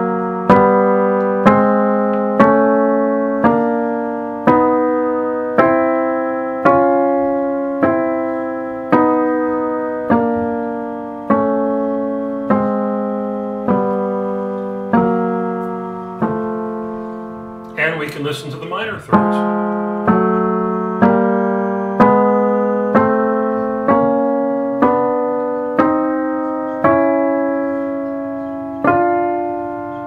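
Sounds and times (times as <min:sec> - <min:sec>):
piano sounding thirds: 0:00.0 - 0:30.0.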